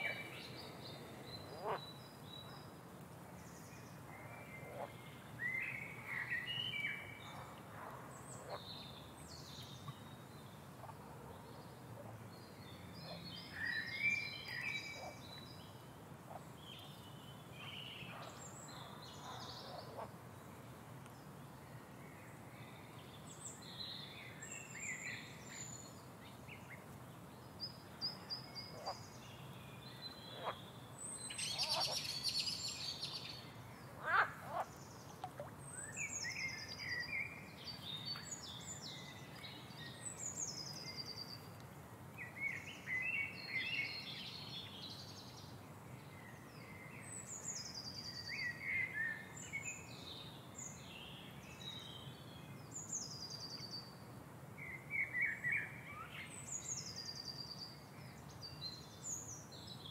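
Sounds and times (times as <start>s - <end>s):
faint background noise: 0.0s - 59.9s
songbirds singing and chirping: 0.0s - 59.9s.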